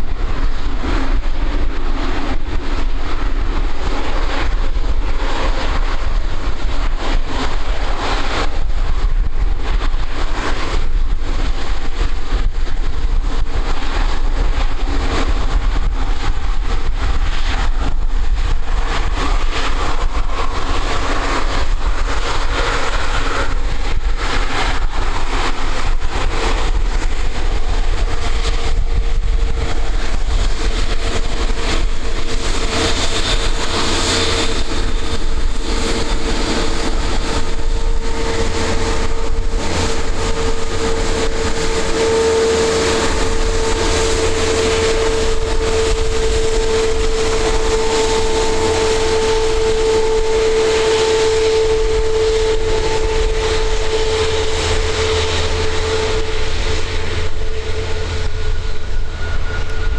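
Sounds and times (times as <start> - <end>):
heavy low rumble: 0.0 - 59.9
jet engine whine: 0.0 - 59.9.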